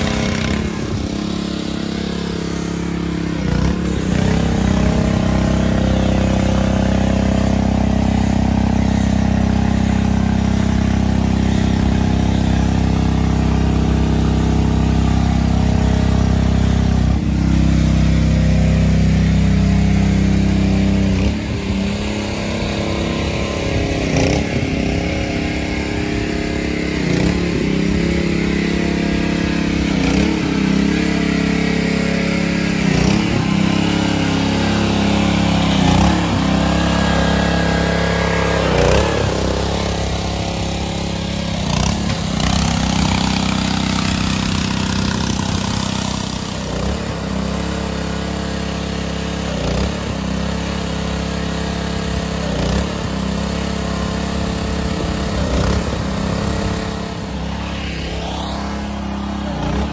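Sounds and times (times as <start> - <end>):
pressure washer engine running: 0.0 - 59.9.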